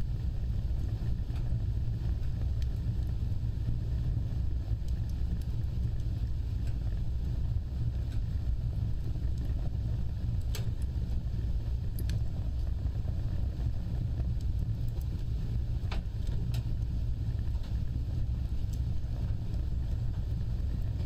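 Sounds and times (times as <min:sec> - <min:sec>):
low rumble of flames: 0:00.0 - 0:21.0
fire crackles and pops: 0:00.1 - 0:21.0.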